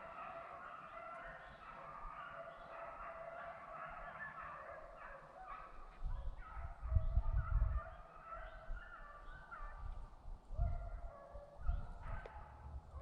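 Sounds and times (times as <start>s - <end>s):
distant hounds baying: 0.0s - 13.0s.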